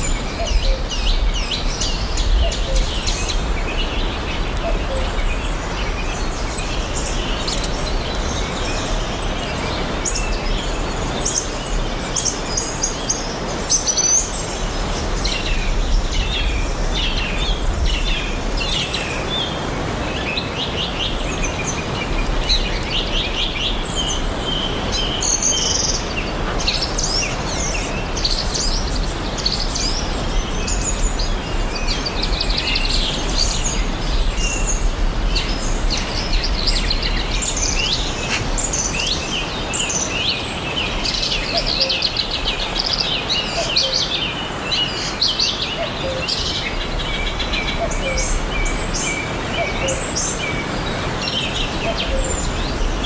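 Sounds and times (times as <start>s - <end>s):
songbirds chirping and trilling: 0.0s - 53.0s.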